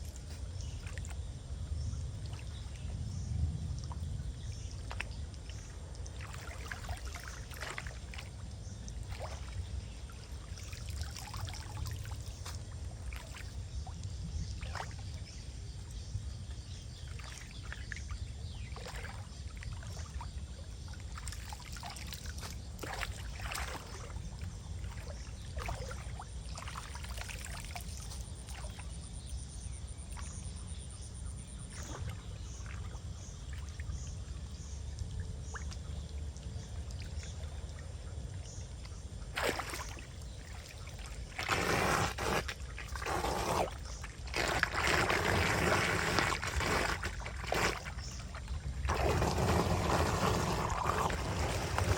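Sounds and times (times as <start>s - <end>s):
water trickling and splashing: 0.0s - 29.4s, 30.0s - 51.9s.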